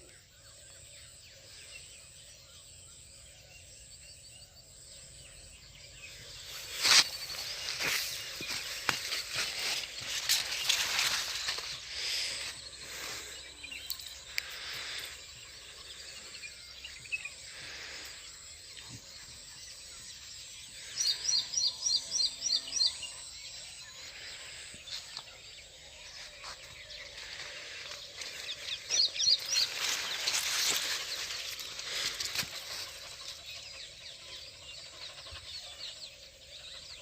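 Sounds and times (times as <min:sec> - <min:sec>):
rural outdoor noise: 0:00.0 - 0:37.0.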